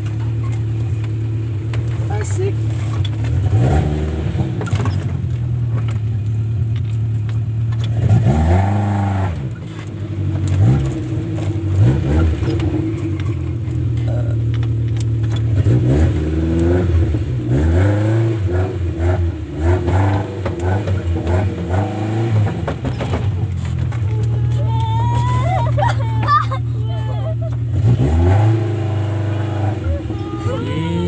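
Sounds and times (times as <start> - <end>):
vehicle engine revving: 0.0 - 31.0.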